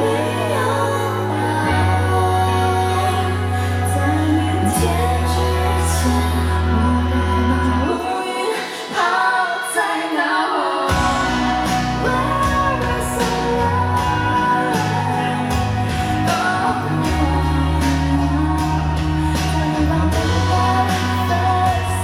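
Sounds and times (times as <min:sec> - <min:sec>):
band playing pop song: 0:00.0 - 0:22.0
woman singing: 0:00.0 - 0:22.0.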